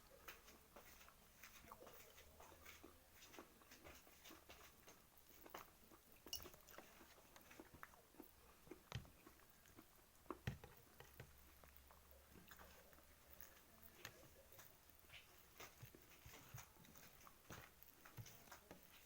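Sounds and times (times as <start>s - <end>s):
chewing and mouth clicks: 0.1s - 19.0s.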